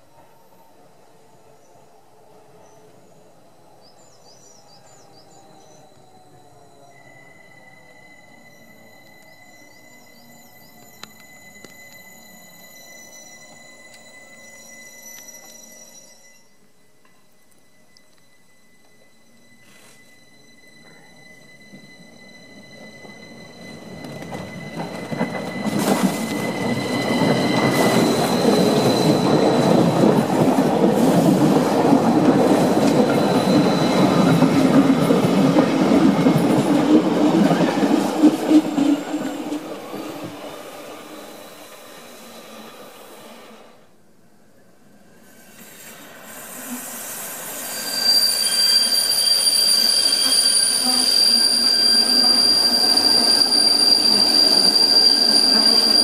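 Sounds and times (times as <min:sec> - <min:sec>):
train rumbling past: 0:00.0 - 0:44.0, 0:44.6 - 0:56.0
high-pitched wheel squeal: 0:04.4 - 0:16.9, 0:17.6 - 0:31.7, 0:32.3 - 0:43.3, 0:46.6 - 0:56.0.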